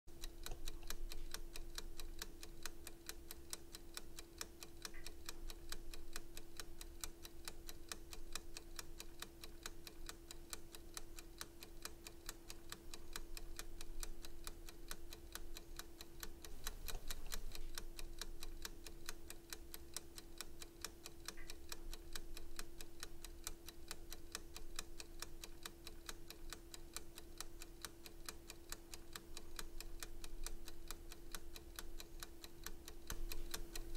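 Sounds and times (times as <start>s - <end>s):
clock ticking: 0.1s - 33.9s.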